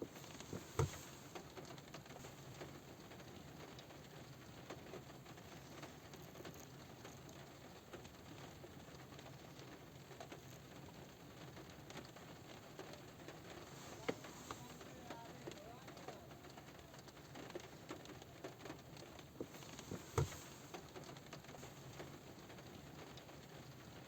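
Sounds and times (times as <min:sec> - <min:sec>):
light rain on a car roof: 0:00.0 - 0:24.0.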